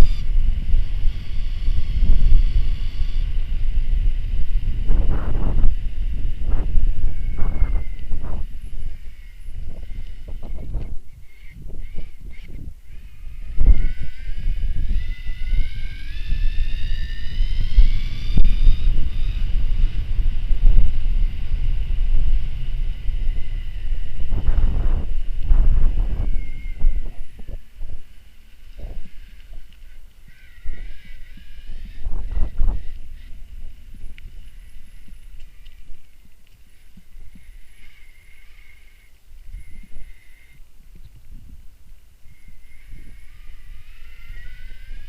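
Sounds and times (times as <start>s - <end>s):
electric bike motor whining: 0.0s - 45.0s
wind buffeting microphone: 0.0s - 45.0s.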